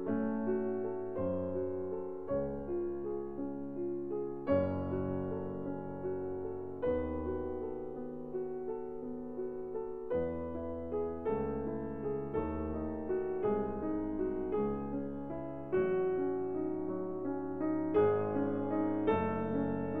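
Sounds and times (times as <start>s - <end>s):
slow gentle piano piece: 0.0s - 20.0s.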